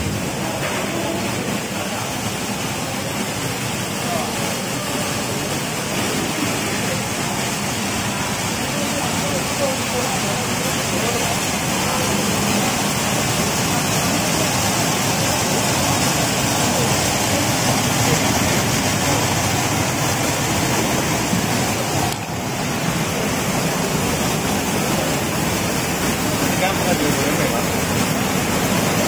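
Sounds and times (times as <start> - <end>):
sorting machine rushing noise: 4.6 - 29.0.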